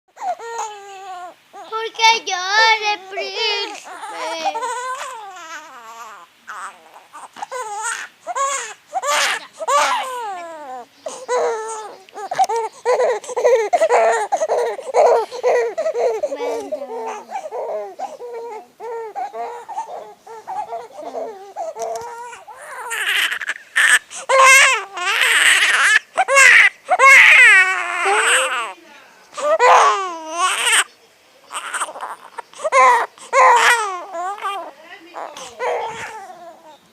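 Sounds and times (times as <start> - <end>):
infant crying: 0.1 - 28.8, 29.4 - 30.9, 31.5 - 36.8.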